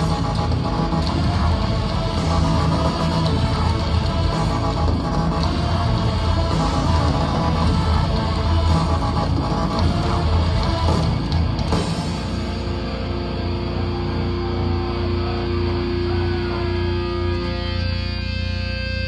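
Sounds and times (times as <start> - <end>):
heavy rock band playing: 0.0 - 19.0.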